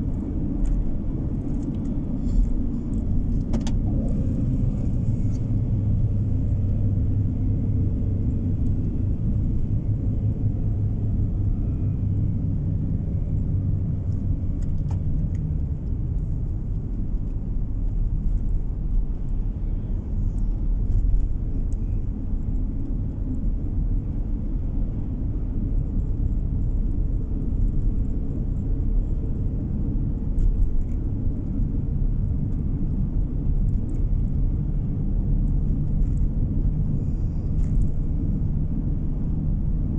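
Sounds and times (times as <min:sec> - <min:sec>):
car driving rumble inside cabin: 0:00.0 - 0:39.9.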